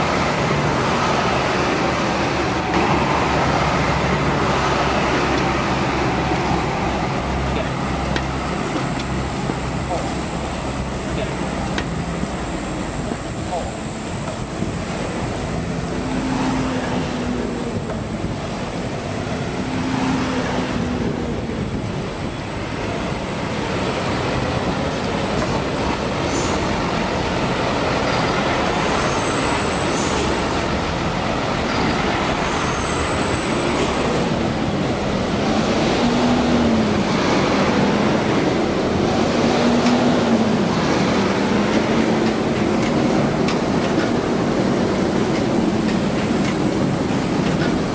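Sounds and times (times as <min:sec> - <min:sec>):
vehicle running noise: 0:00.0 - 0:47.9.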